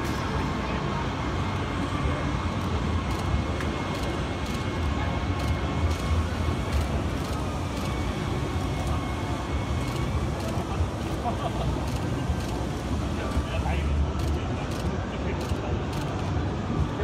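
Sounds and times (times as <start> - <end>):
indistinct crowd noise: 0.0 - 17.0.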